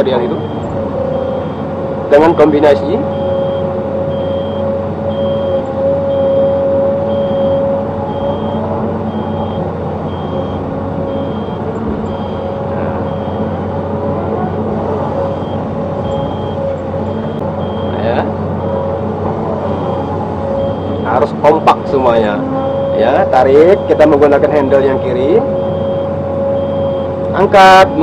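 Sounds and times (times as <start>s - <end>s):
excavator engine and hydraulics: 0.0s - 28.0s
short high warning beeps: 0.2s - 13.8s, 14.5s - 19.1s, 19.7s - 22.0s, 22.6s - 27.1s.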